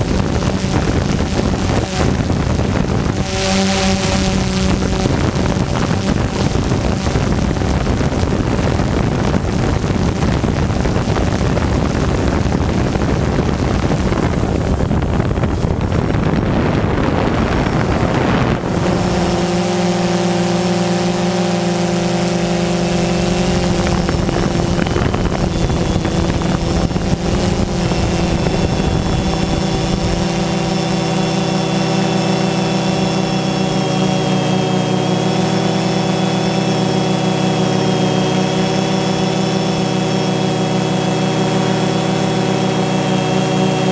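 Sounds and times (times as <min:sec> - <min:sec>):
drone motors humming: 0:00.0 - 0:43.9
rushing wind noise: 0:00.0 - 0:43.9.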